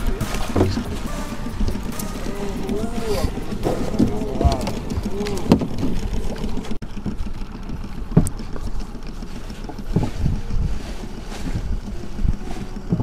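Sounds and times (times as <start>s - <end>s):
fishing boat engine rumble: 0.0s - 13.0s
wind buffeting microphone: 0.0s - 13.0s.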